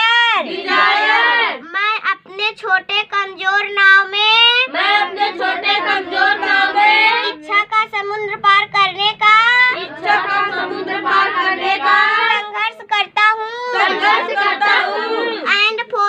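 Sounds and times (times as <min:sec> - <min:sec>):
girl reciting in sing-song voice: 0:00.0 - 0:16.0.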